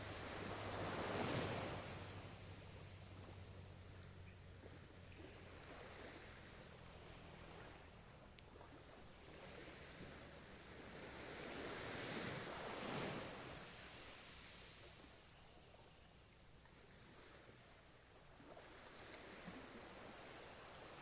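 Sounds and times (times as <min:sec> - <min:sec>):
ocean surf wash: 0:00.0 - 0:04.0, 0:04.7 - 0:16.0, 0:16.6 - 0:21.0.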